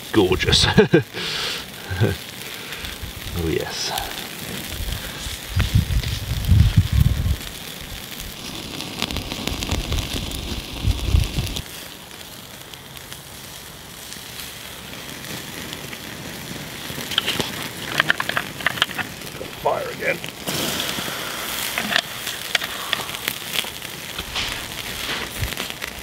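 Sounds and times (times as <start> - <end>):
meat sizzling and crackling on grill: 0.0 - 26.0.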